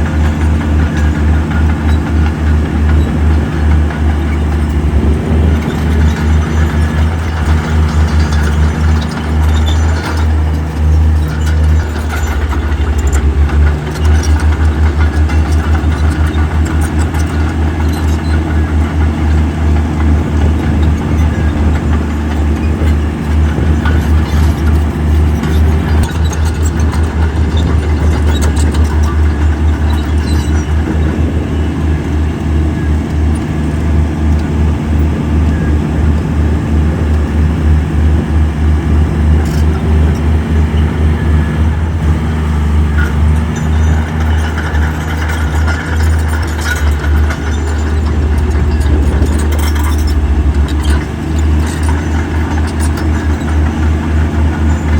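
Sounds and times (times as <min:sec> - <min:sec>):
heavy diesel engine throbbing: 0:00.0 - 0:54.9.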